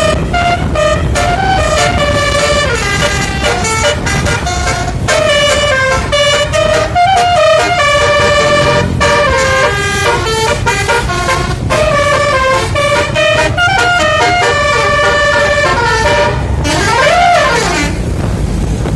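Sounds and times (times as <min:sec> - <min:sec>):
bus musical horn tune: 0:00.0 - 0:18.2
bus rumble: 0:00.0 - 0:18.9.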